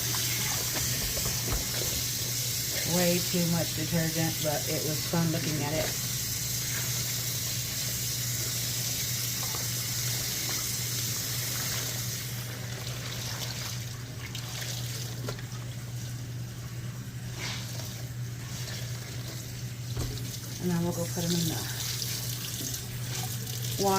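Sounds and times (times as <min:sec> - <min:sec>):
low steady hum: 0:00.0 - 0:23.9
water running from a tap: 0:00.0 - 0:23.9.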